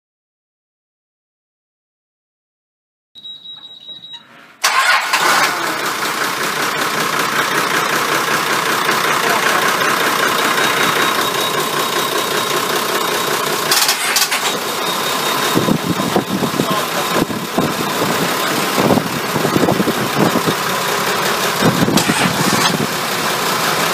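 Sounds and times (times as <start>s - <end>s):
diesel engine starting and running: 3.2s - 23.9s.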